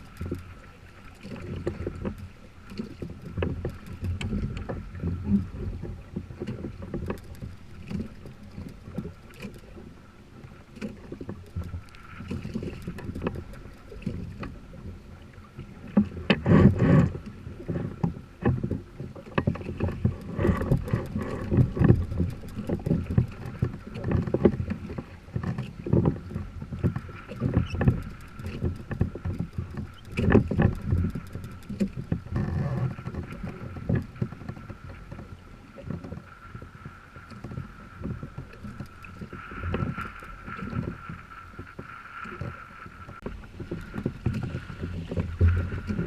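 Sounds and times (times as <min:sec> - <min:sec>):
small knocks on boat: 0:00.0 - 0:09.9, 0:10.7 - 0:46.0
water sloshing against kayak hull: 0:00.0 - 0:46.0.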